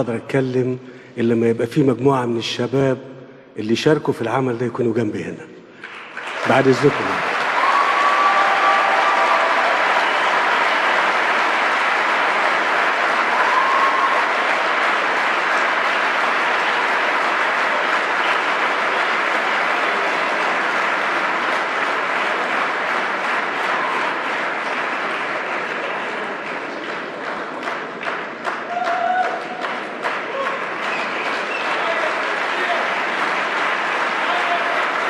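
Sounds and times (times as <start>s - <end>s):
audience applauding: 5.8s - 35.0s.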